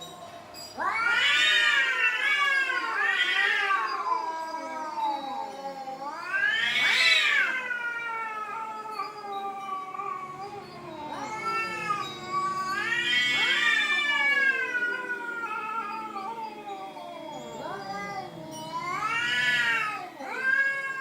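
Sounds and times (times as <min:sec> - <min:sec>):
cats yowling: 0:00.6 - 0:21.0.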